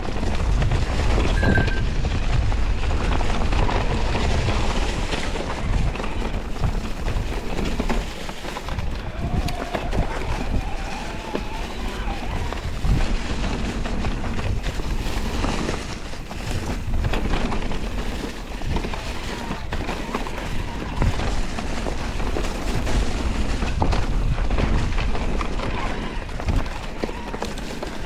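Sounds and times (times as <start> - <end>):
bike rolling on rough trail: 0.0 - 28.0
wind buffeting microphone: 0.0 - 28.0.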